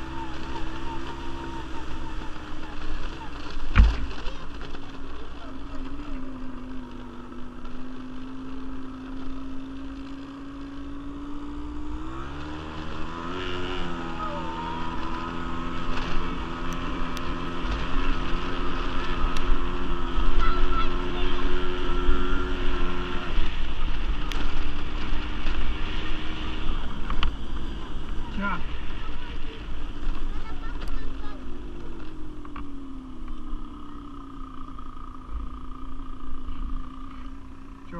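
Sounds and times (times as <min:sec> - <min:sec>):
quad bike engine revving: 0:00.0 - 0:37.9.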